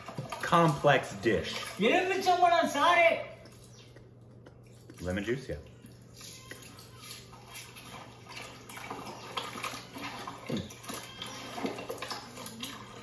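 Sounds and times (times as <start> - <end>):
meat mixed in wet marinade: 0.0 - 13.0.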